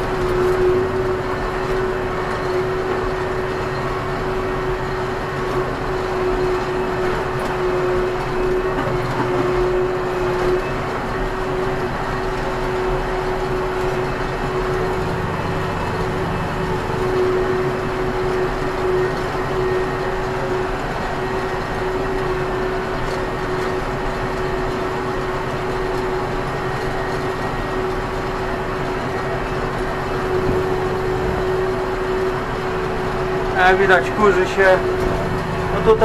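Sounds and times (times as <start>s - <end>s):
steady whining tone: 0.0s - 36.0s
tractor diesel engine under load: 0.0s - 36.0s.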